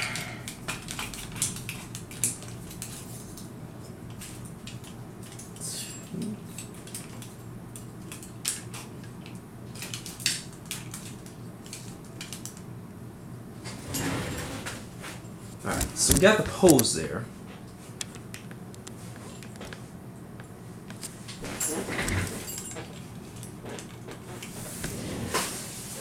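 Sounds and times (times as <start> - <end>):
low hum of room tone: 0.0 - 26.0.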